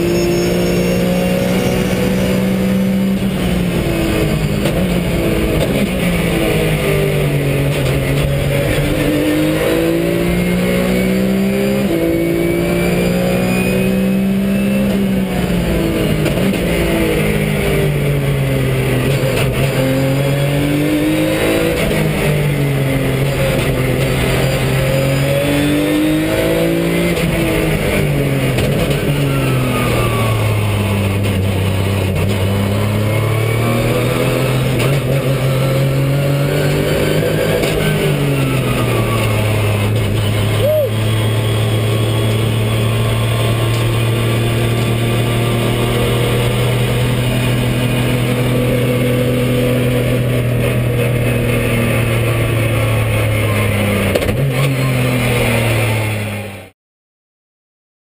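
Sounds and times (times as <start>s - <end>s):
racing car engine revving: 0.0s - 56.7s.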